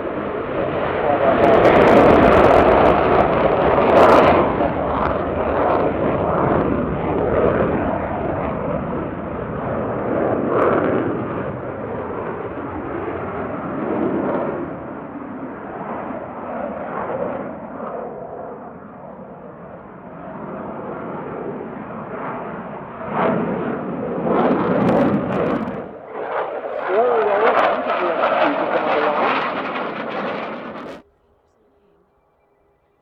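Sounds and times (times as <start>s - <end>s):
jet engine roar: 0.0s - 31.8s.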